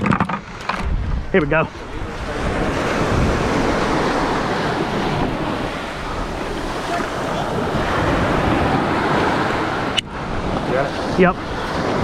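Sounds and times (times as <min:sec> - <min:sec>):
surf washing up beach: 0:00.0 - 0:12.0
wind buffeting microphone: 0:00.0 - 0:12.0.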